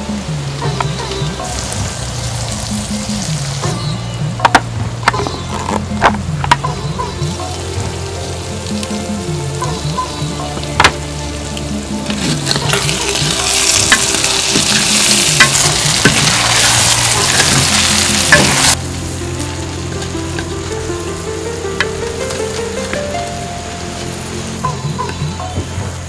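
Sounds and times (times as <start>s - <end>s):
vegetables sizzling in a pot: 0.0s - 26.0s.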